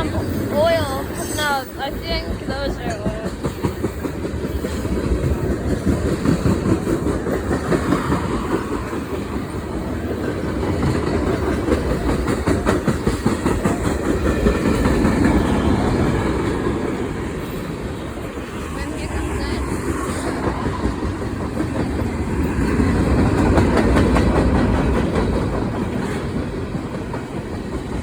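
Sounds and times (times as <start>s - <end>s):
train wheels rumbling on rail: 0.0s - 28.0s
wheels clacking over rail joints: 0.0s - 28.0s.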